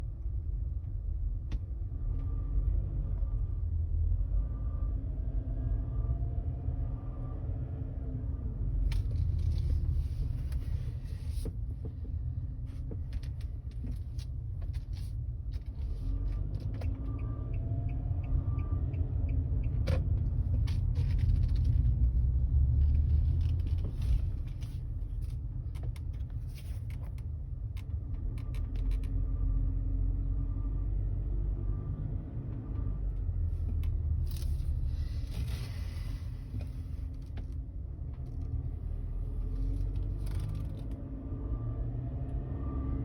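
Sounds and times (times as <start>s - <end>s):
car engine low rumble: 0.0s - 43.0s.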